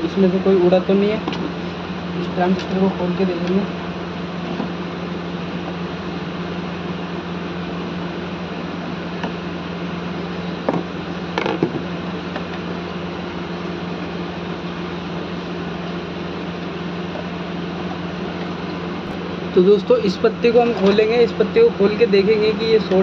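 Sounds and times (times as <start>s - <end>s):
steady fan-like hum: 0.0s - 23.0s.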